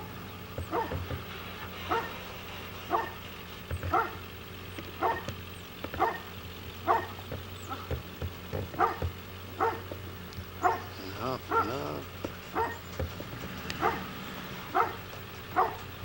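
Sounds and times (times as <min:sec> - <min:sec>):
steady low hum: 0:00.0 - 0:16.0
dog barking: 0:00.6 - 0:01.2, 0:01.8 - 0:02.2, 0:02.8 - 0:04.3, 0:05.0 - 0:08.0, 0:08.6 - 0:16.0.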